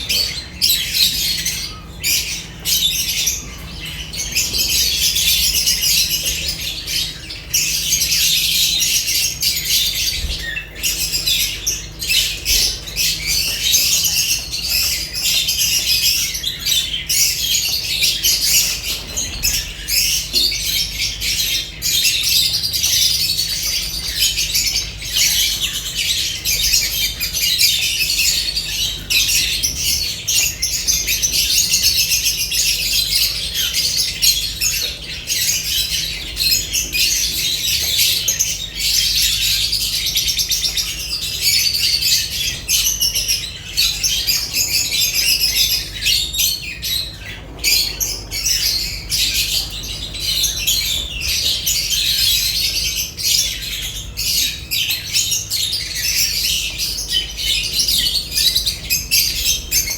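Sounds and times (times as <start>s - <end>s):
lovebirds chattering and squawking: 0.0s - 59.9s.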